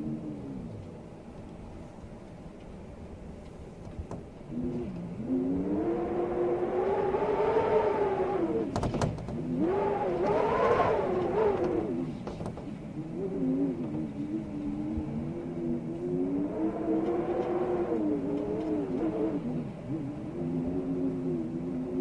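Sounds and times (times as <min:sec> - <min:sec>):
storm wind howling: 0:00.0 - 0:22.0.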